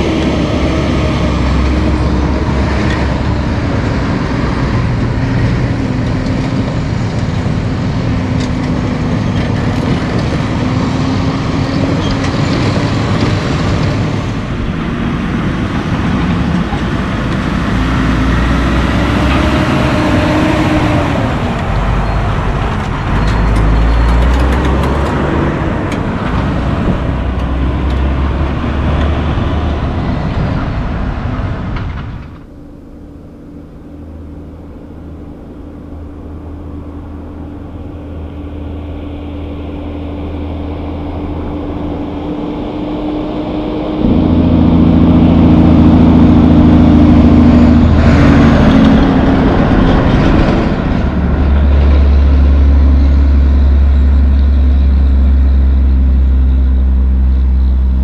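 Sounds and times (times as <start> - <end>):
dump truck approaching: 0.0 - 58.0
dump truck diesel engines accelerating: 0.0 - 58.0.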